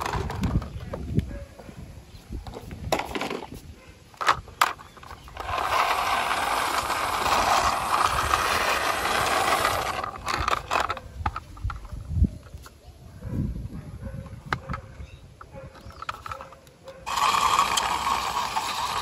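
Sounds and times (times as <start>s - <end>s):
toy car wheels rolling on concrete: 0.0s - 1.3s, 2.4s - 12.7s, 14.3s - 19.0s.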